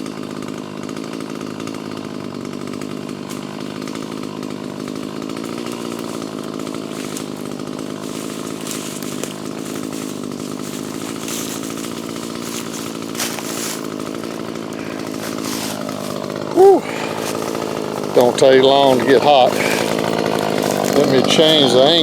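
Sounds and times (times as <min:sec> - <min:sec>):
chainsaw cutting through log: 0:00.0 - 0:22.0.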